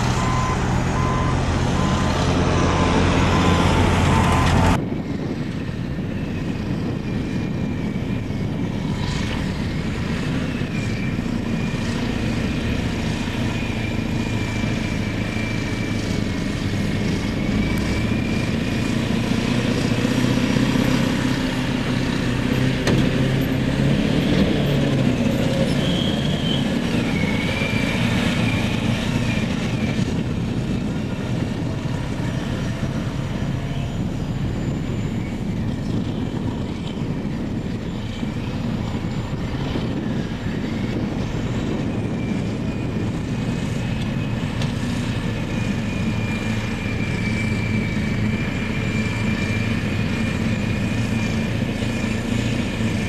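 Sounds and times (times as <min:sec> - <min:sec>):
heavy diesel machinery running: 0:00.0 - 0:53.0
high metallic squeal: 0:06.2 - 0:53.0.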